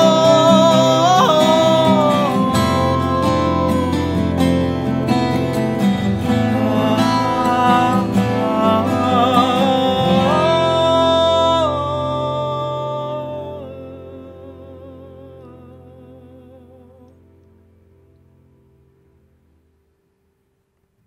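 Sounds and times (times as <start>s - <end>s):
man singing with vibrato: 0.0s - 17.2s.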